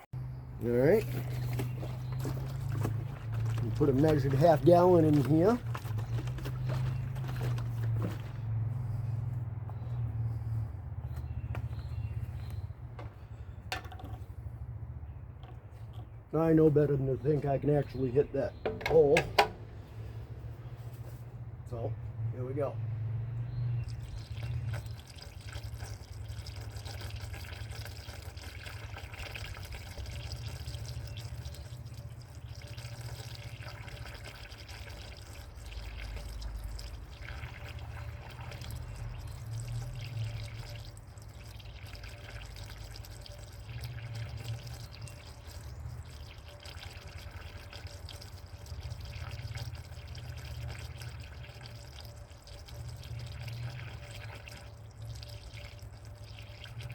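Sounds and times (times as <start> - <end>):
water pouring and gurgling: 0.0 - 21.1, 22.7 - 56.9.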